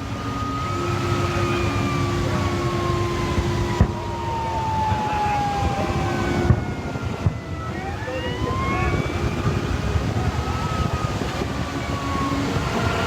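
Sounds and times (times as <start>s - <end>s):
siren wailing: 0.0s - 13.0s
steady rushing noise: 0.0s - 13.0s.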